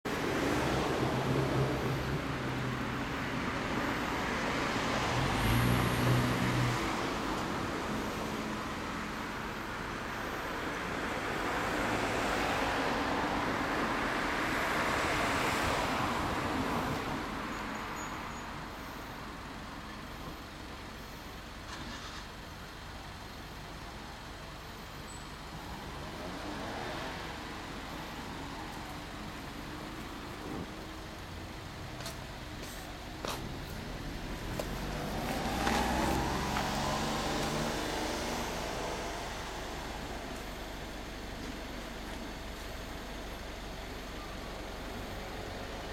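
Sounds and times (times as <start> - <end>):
vehicles passing by: 0.0 - 45.9.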